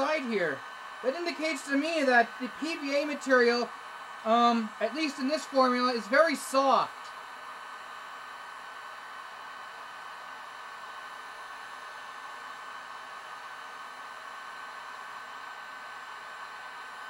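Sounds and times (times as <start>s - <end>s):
heat gun blowing air: 0.0s - 17.0s.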